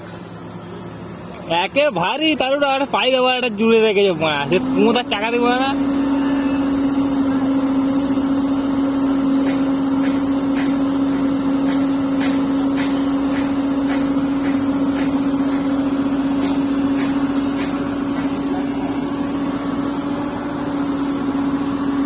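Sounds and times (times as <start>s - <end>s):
excavator engine and hydraulics whining: 0.0s - 22.0s.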